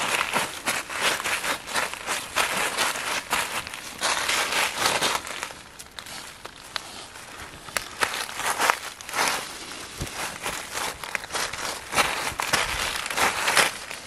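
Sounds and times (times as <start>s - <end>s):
footsteps on dry leaves: 0.0s - 14.0s.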